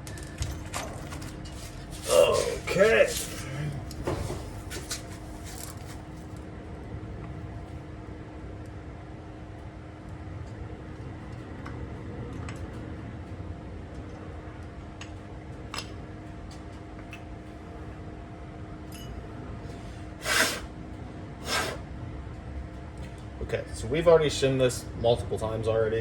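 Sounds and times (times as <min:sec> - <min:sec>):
steady shop hum: 0:00.0 - 0:26.0.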